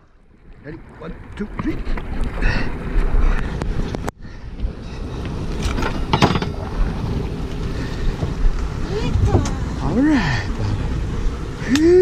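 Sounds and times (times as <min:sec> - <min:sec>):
boat rumble: 0:00.0 - 0:12.0
wind buffeting microphone: 0:00.4 - 0:12.0.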